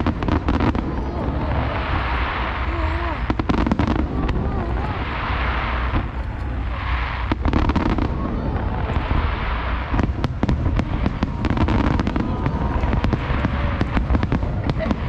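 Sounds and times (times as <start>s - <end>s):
deep rumble: 0.0s - 15.0s
rapid crackling bangs: 0.0s - 15.0s.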